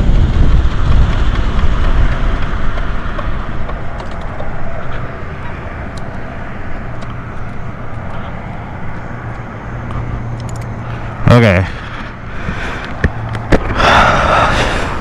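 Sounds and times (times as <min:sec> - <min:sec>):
low hum: 0:00.0 - 0:15.0
motorcycle engine rumble: 0:00.0 - 0:15.0
wind and road noise: 0:00.0 - 0:15.0.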